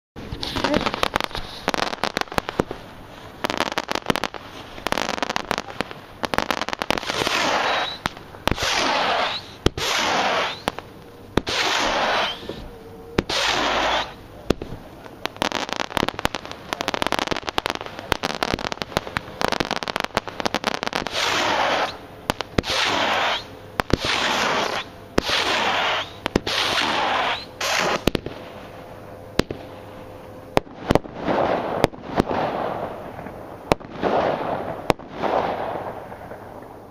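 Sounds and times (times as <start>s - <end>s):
firework shots: 0.2s - 36.9s
hissing crackle: 0.2s - 36.9s.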